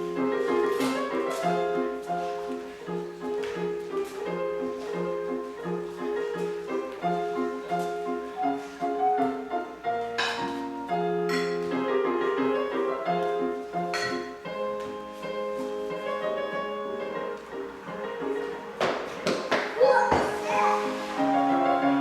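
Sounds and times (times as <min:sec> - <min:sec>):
piano melody: 0:00.0 - 0:22.0.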